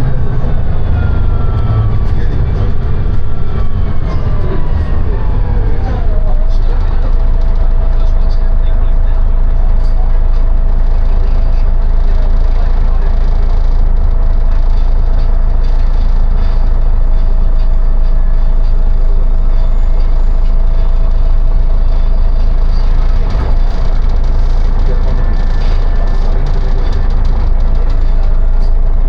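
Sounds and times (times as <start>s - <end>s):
bus engine and road rumble: 0.0s - 29.0s
constant whine: 0.0s - 29.0s.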